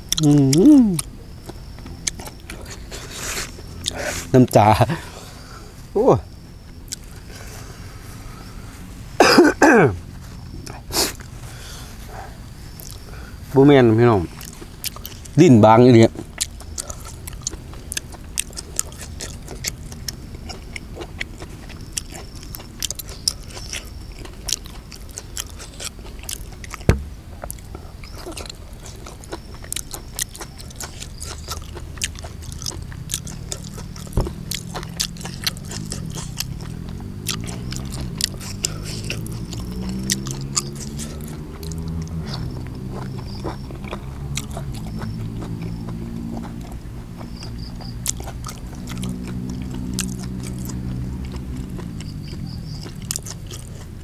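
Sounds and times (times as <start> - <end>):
person chewing meat: 0.0 - 5.4, 6.7 - 7.8, 10.6 - 13.4, 14.2 - 15.4, 16.1 - 54.0.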